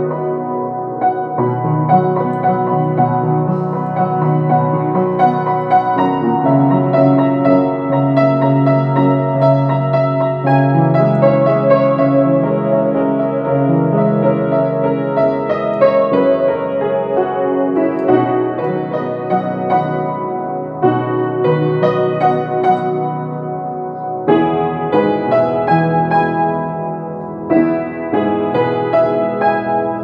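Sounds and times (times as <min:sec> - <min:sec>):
slow piano melody: 0:00.0 - 0:30.0.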